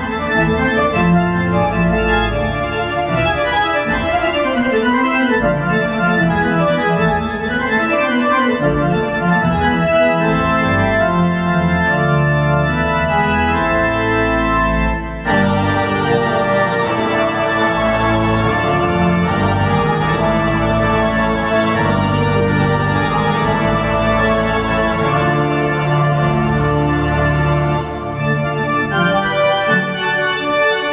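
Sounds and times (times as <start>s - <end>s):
organ-like keyboard chords: 0.0s - 30.9s.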